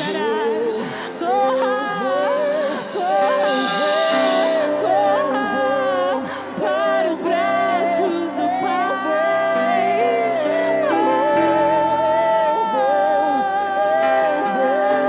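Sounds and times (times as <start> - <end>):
person singing: 0.0 - 15.0
sustained accompanying chords: 0.0 - 15.0.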